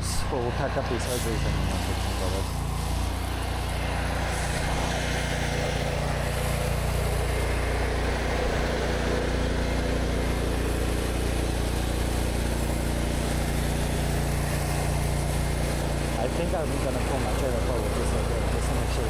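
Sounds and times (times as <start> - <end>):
pressure washer engine running: 0.0 - 19.0
water spray hissing: 0.0 - 19.0.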